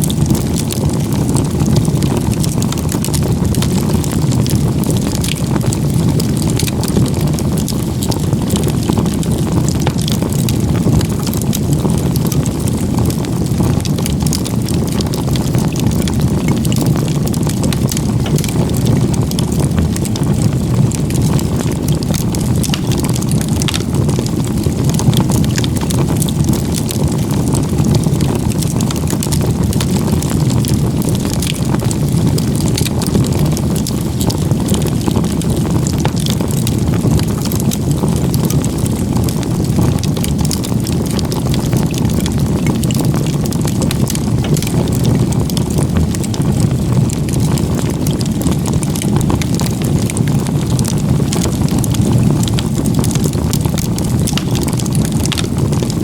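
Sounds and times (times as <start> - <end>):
rush of flames: 0.0 - 56.0
wood crackling and popping: 0.0 - 56.0.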